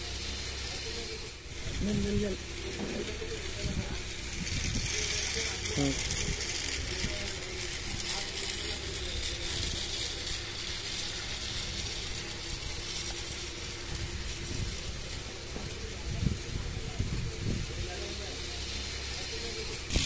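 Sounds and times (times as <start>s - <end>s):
toy train motor and wheels running: 0.0s - 20.0s.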